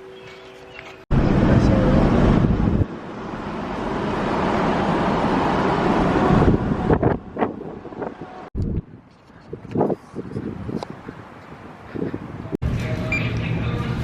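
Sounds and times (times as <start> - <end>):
vehicle moving: 0.0 - 14.0
wind rushing over microphone: 1.1 - 14.0.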